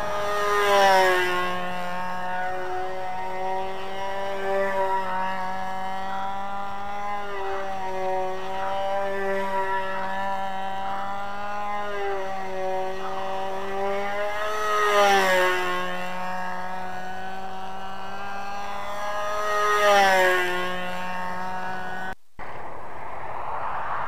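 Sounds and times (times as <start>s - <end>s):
model plane engine running: 0.0s - 22.2s.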